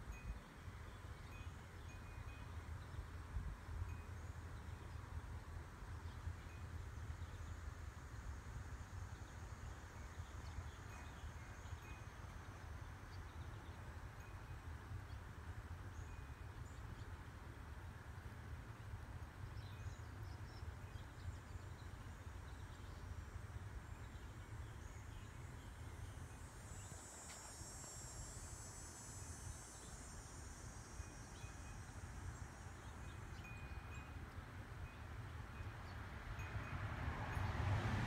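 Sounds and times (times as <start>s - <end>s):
low rumble and hiss: 0.0s - 36.5s.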